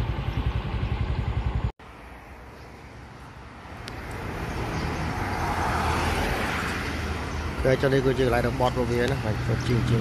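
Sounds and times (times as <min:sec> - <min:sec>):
highway traffic rumble: 0:00.0 - 0:10.0
car passing: 0:01.8 - 0:10.0.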